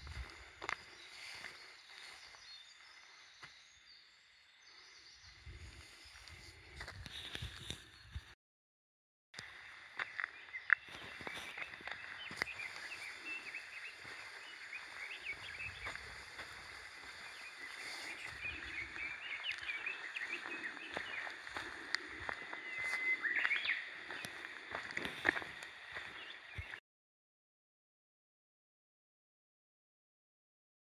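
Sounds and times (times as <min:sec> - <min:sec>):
small birds chirping: 0:00.0 - 0:08.3, 0:09.4 - 0:26.8.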